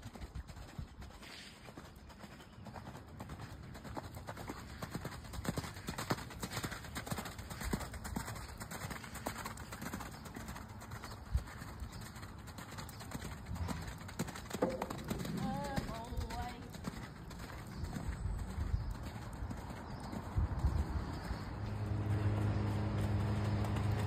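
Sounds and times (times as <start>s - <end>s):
horse hoofbeats on sand: 0.0s - 24.0s.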